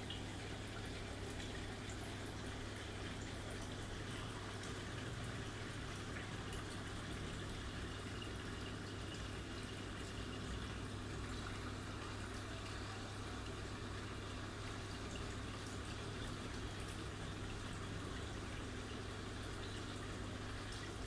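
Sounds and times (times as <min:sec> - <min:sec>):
aquarium aerator humming: 0:00.0 - 0:21.0.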